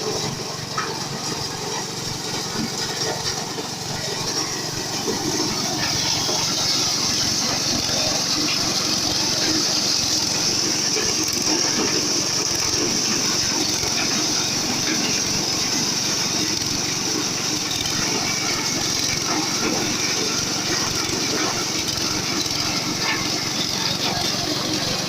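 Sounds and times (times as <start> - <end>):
threshing machine engine drone: 0.0 - 25.0.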